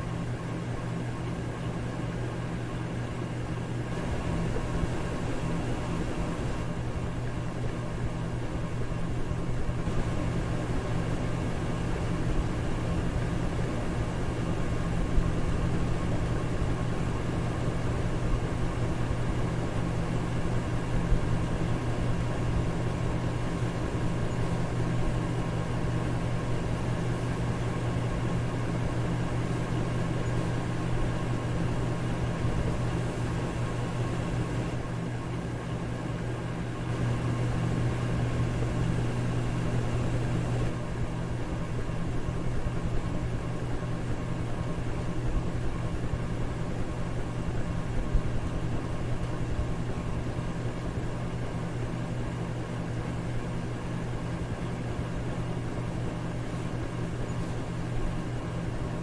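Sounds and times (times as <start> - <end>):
electric fan rushing: 0.0 - 59.0
low motor hum: 0.0 - 59.0.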